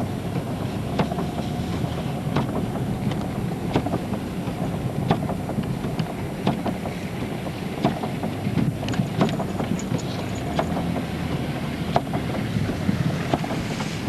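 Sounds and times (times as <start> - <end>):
engine and tyres rumbling: 0.0 - 14.0.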